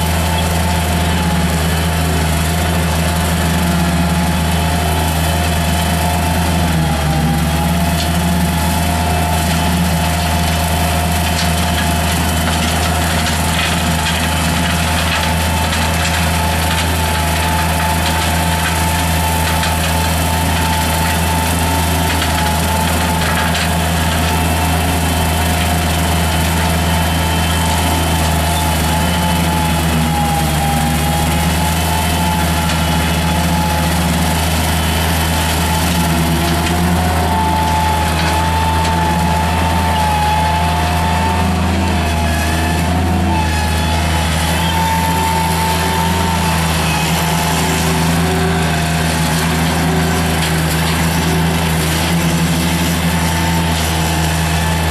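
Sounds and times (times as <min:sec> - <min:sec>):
hydraulic brush cutter whine: 0:00.0 - 0:54.9
loader engine running: 0:00.0 - 0:54.9.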